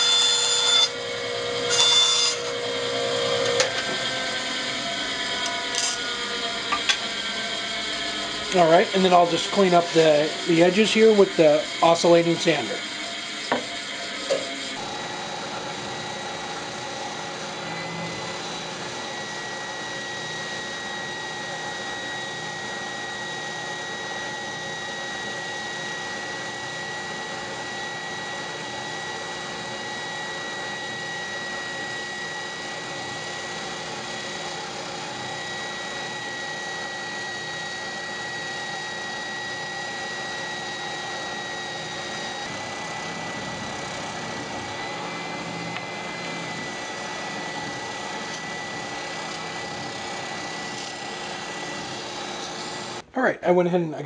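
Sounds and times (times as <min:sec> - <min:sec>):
spindle sander motor whining: 0:00.0 - 0:53.0.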